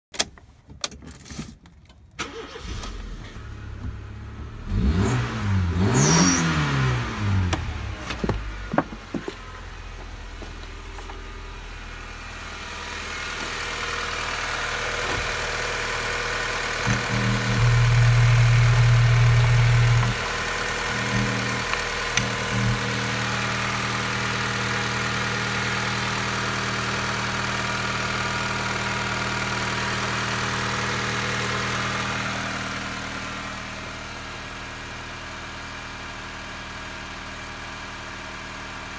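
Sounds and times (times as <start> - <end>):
car engine starting and idling: 1.7 - 38.9.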